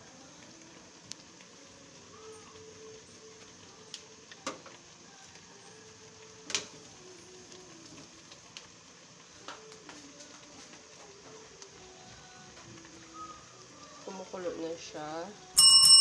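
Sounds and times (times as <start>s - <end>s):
syrup boiling in a pan: 0.0s - 15.6s.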